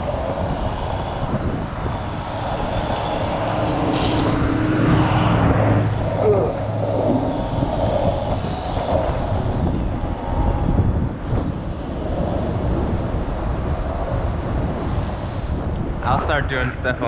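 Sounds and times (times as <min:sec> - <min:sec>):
moving car rumble: 0:00.0 - 0:17.0.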